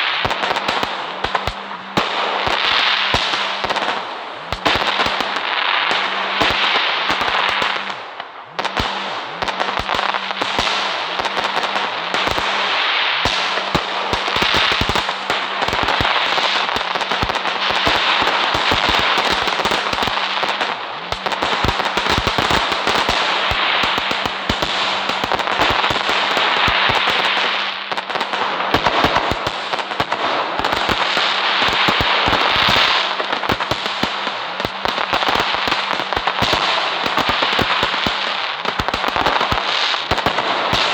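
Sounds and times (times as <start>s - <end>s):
firecrackers popping: 0.0s - 40.9s
steady hiss: 0.0s - 40.9s.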